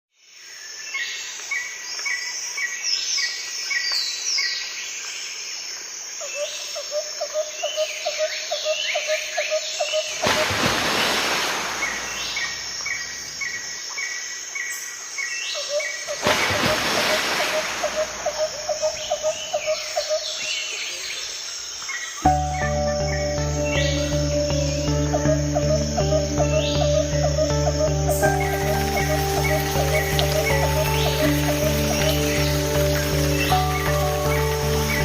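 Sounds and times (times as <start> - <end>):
birds calling: 6.4 - 35.0.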